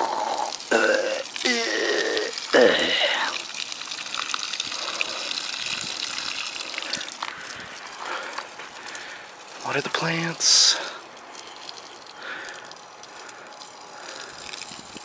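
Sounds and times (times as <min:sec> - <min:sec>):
water gurgling from a jug: 0:00.0 - 0:15.0
water stream pouring onto grass: 0:00.0 - 0:15.0.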